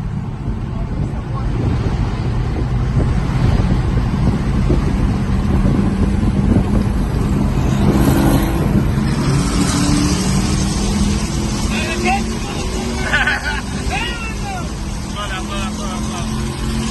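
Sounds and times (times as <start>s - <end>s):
car engine running hard: 0.0s - 16.9s
road and wind rumble: 0.0s - 16.9s.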